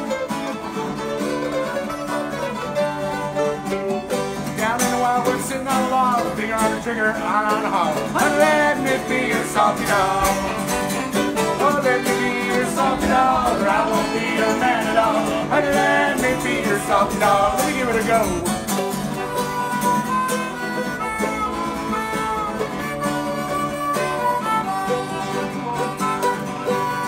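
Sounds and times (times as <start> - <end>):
bluegrass band playing: 0.0 - 27.0
harmonica melody: 0.0 - 27.0
voices singing: 4.5 - 27.0.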